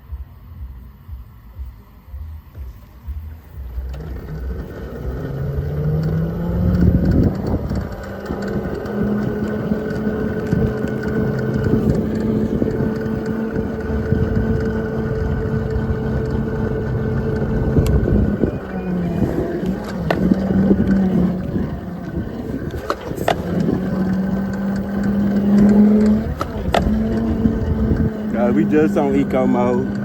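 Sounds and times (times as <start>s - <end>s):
electric motorcycle motor whine: 0.0s - 30.0s
wind buffeting microphone: 3.0s - 30.0s.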